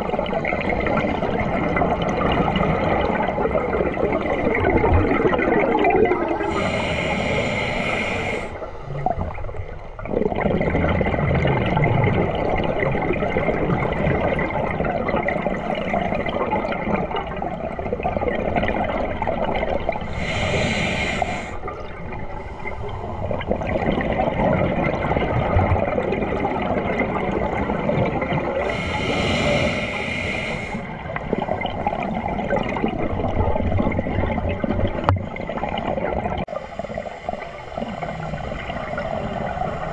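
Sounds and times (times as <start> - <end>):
regulator bubbles hissing: 0.0 - 39.9
underwater rush and rumble: 0.0 - 39.9.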